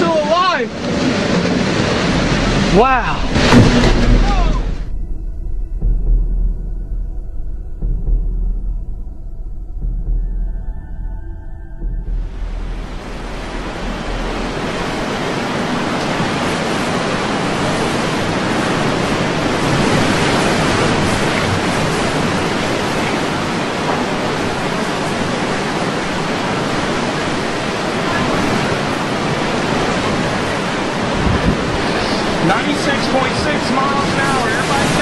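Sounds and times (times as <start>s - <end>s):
crashing surf: 0.0s - 5.9s, 11.8s - 35.0s
gusting wind: 0.0s - 35.0s.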